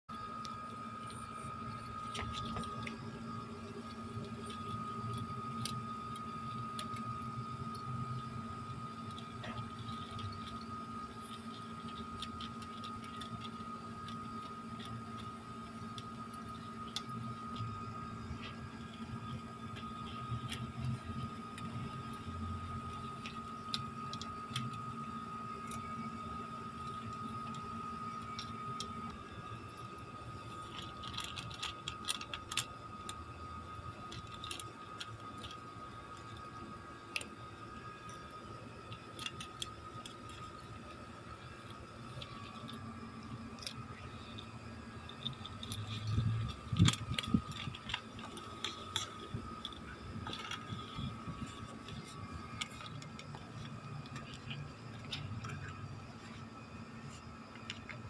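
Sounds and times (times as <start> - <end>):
faint steady hum: 0.1 - 58.0
cat crunching dry kibble: 1.0 - 26.1, 30.4 - 38.2, 38.8 - 58.0.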